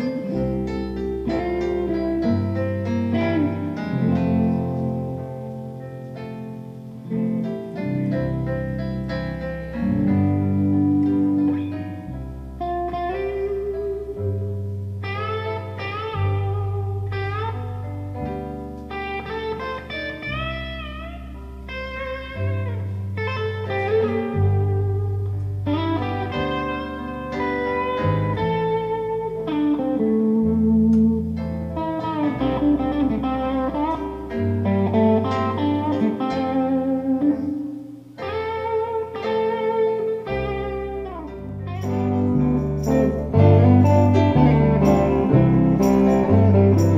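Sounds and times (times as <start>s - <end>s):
bass line: 0.0s - 5.8s, 7.1s - 39.0s, 40.3s - 46.9s
blues guitar lead: 0.0s - 46.9s.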